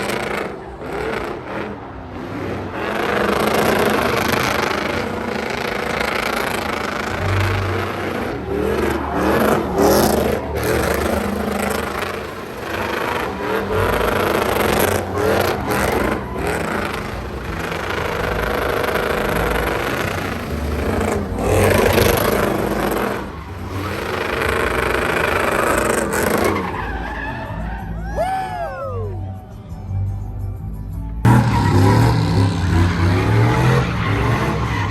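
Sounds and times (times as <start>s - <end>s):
truck engine revving: 0.0s - 28.0s, 30.5s - 34.9s
tyres spinning and squealing: 0.0s - 29.3s, 31.3s - 34.9s.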